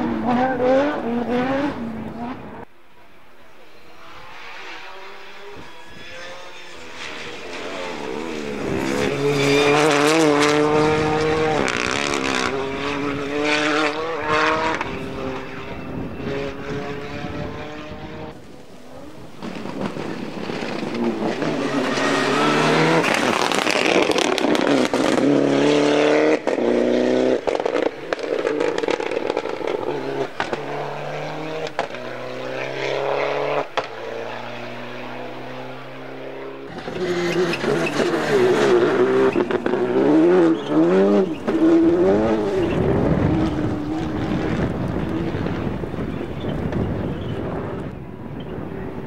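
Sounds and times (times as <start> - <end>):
rally cars driving past: 0.0 - 49.0.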